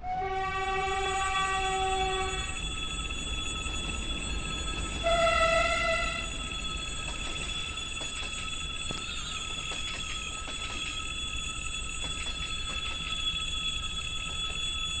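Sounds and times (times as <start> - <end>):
high-pitched whine: 0.0 - 15.0
train rumbling on track: 0.0 - 15.0.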